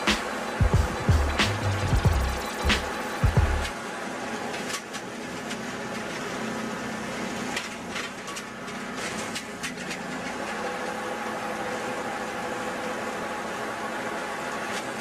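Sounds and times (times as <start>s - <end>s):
baler engine running: 0.0s - 15.0s.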